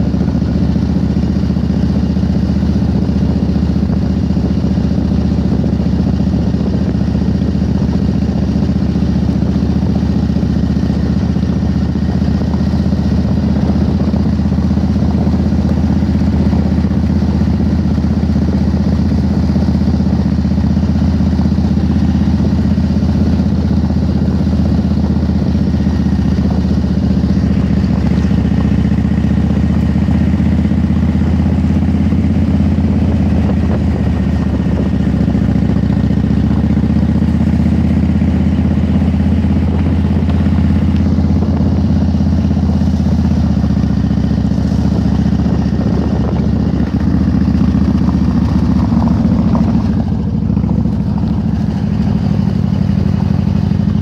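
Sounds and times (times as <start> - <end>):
motorcycle engine running: 0.0 - 54.0
tyres on gravel road: 0.0 - 54.0.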